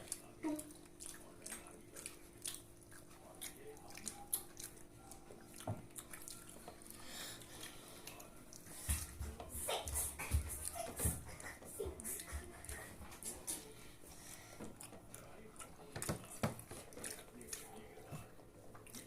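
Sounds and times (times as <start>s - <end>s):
chewing sounds: 0.0s - 19.0s.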